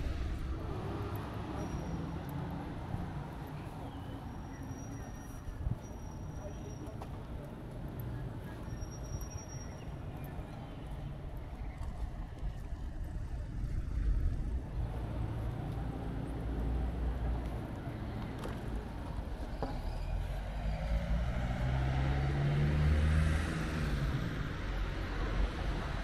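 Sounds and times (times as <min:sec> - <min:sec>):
street ambience: 0:00.0 - 0:26.0
vehicle engine rumble: 0:00.0 - 0:26.0.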